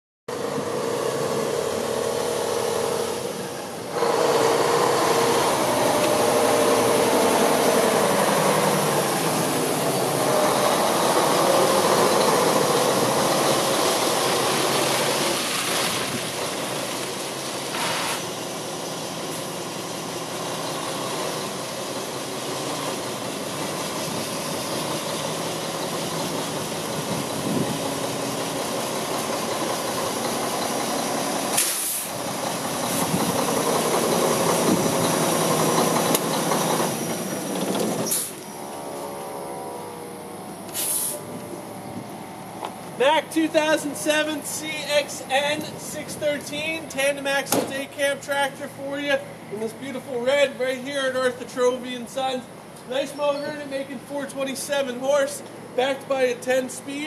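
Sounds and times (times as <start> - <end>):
diesel truck engine running: 0.3 - 57.0.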